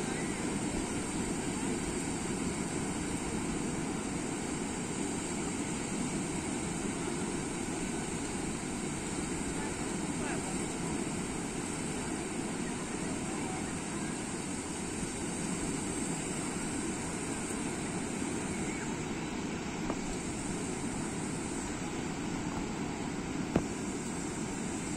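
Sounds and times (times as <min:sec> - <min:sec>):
waves breaking on sandy beach: 0:00.0 - 0:24.9.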